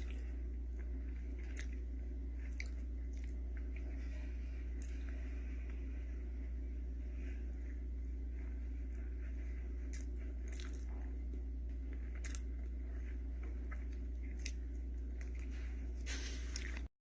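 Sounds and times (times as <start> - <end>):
soft chewing: 0.0 - 16.9
steady low hum: 0.0 - 16.9.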